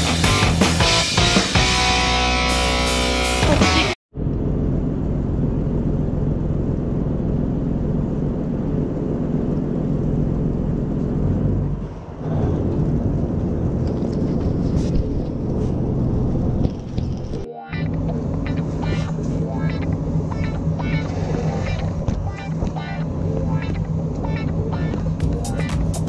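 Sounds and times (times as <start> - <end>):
boat engine humming: 3.5 - 26.0.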